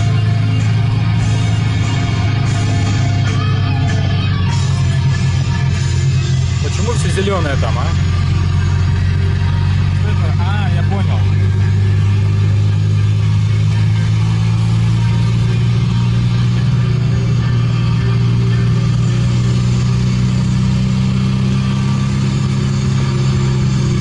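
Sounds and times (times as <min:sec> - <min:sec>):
car engine drone: 0:00.0 - 0:24.0
tyre and road noise: 0:00.0 - 0:24.0.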